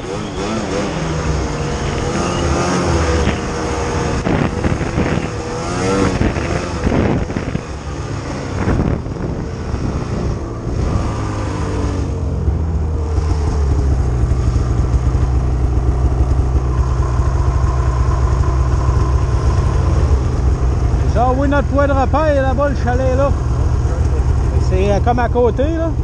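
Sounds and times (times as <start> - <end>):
snowmobile engine: 0.0 - 26.0.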